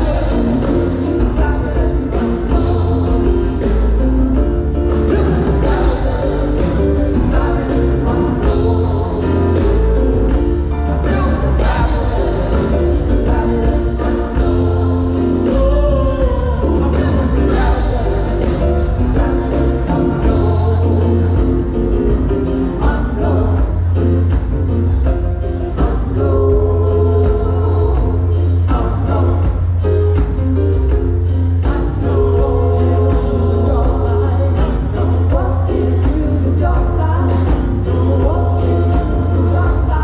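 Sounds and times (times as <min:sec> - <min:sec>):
choir singing: 0:00.0 - 0:24.2, 0:31.6 - 0:40.0
heavy bass: 0:00.0 - 0:40.0
live band: 0:00.0 - 0:40.0
steady drumbeat: 0:00.0 - 0:40.0.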